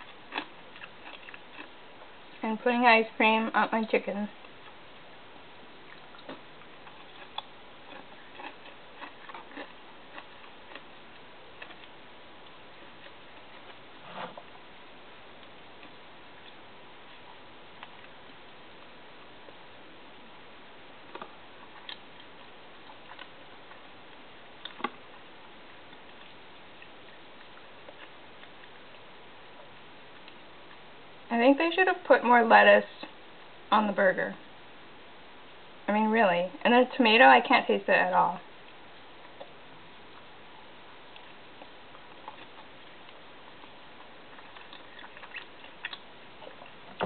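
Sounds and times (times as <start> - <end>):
steady low hiss: 0.0 - 47.0.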